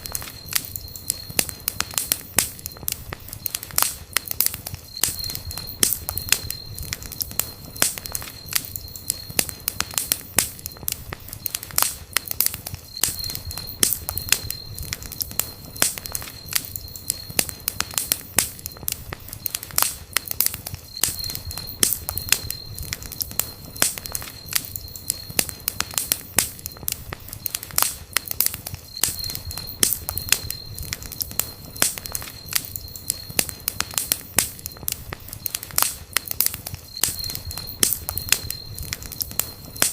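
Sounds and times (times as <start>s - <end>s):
campfire crackling and popping: 0.0s - 39.9s
faint high whistle: 0.0s - 39.9s.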